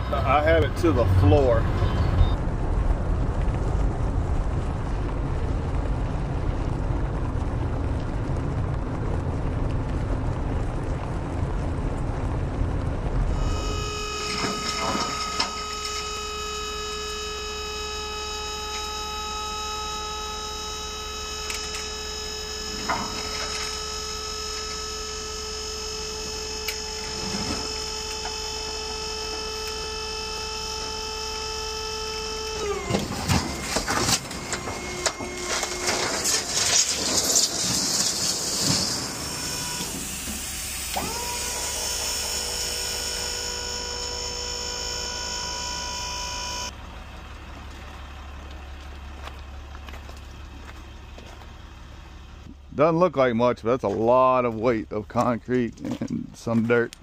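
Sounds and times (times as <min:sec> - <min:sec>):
truck drivetrain whine: 0:00.0 - 0:53.2.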